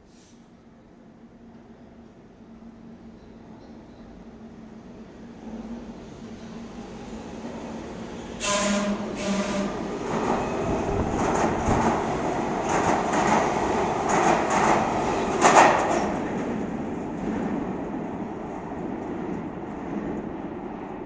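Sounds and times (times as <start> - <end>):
subway train on rails: 0.0 - 21.0.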